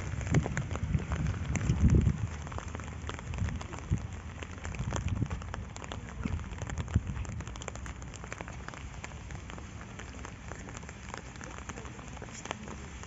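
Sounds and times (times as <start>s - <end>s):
raindrops ticking: 0.0s - 13.0s
steady rain falling: 0.0s - 13.0s.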